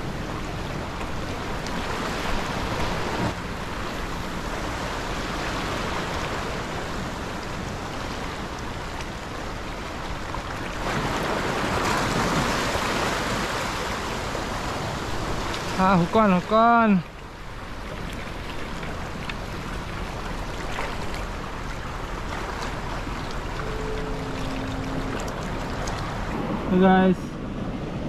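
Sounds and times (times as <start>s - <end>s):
waves splashing on rocks: 0.0s - 28.0s.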